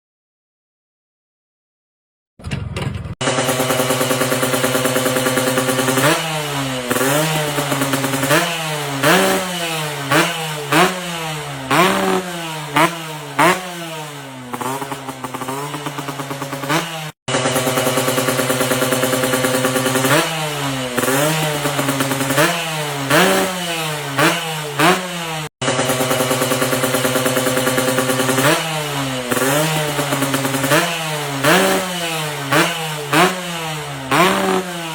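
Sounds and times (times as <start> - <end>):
motorcycle engine idling and revving: 2.8 - 34.9.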